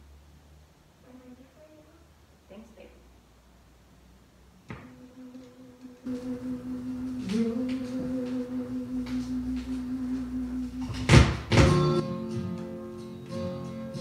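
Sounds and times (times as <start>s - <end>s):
record player low hum: 0.0s - 12.0s.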